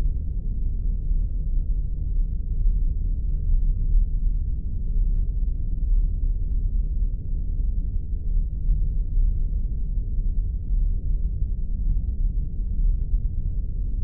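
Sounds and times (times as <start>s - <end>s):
deep droning synth hum: 0.0s - 14.0s.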